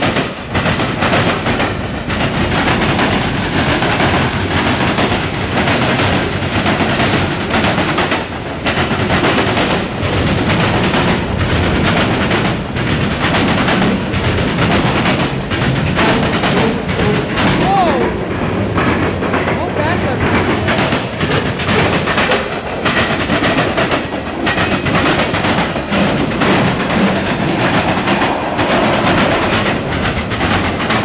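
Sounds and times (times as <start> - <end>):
freight train cars rumbling: 0.0 - 31.0
wheels clacking on rail joints: 0.0 - 31.0.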